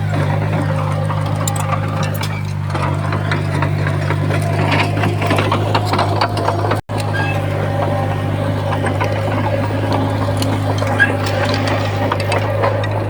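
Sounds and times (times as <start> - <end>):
heavy diesel machinery droning: 0.0 - 13.0.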